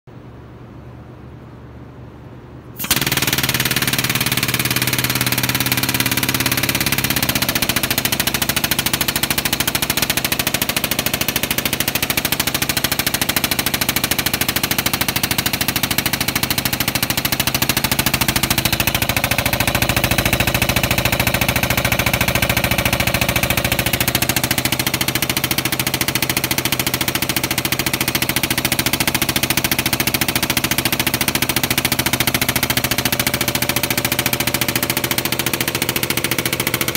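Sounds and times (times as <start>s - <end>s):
pump running steadily: 2.8s - 36.9s.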